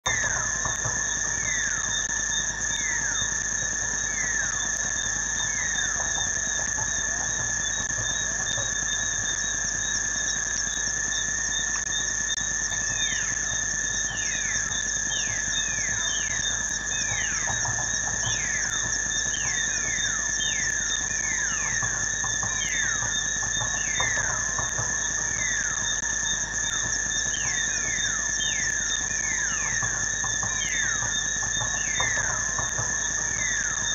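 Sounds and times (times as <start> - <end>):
high-pitched insect trilling: 0.1 - 33.9.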